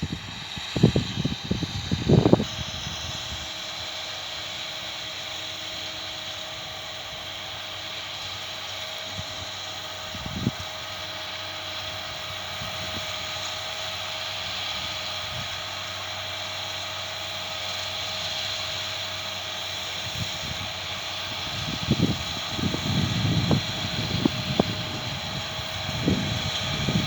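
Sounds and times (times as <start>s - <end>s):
thin steady whine: 0.0s - 27.0s
tractor and baler running: 0.0s - 27.0s.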